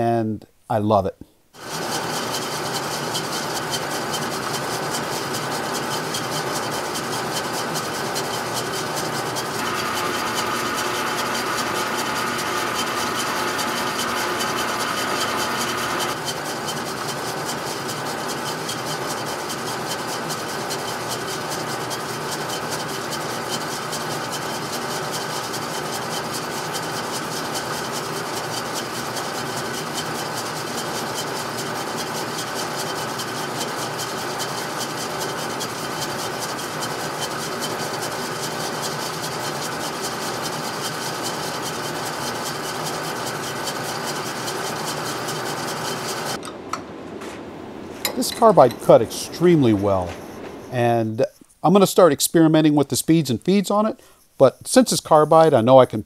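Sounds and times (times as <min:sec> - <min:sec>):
milling machine cutting metal: 0:01.6 - 0:46.8, 0:48.0 - 0:51.0.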